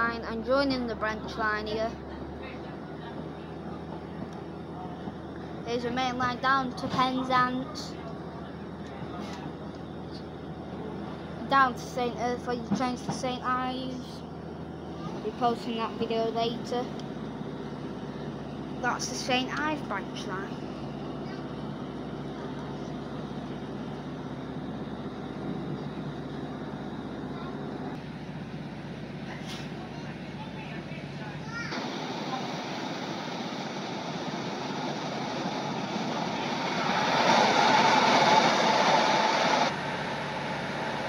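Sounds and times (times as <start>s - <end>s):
diesel train engine drone: 0.0s - 41.0s
train travel noise: 0.0s - 41.0s.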